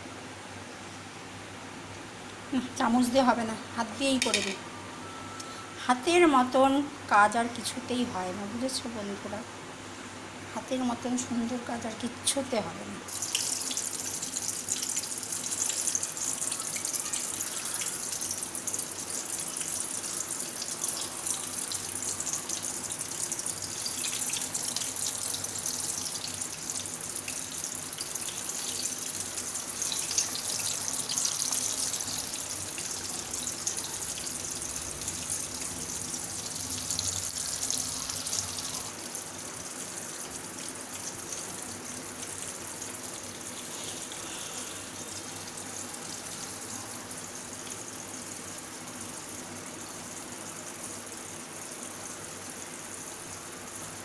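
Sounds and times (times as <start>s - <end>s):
food deep-frying in oil: 10.6s - 54.0s.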